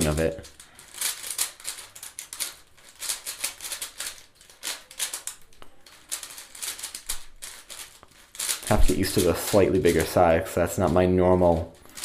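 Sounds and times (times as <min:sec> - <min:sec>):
plastic puzzle cube clicking: 0:00.4 - 0:10.2.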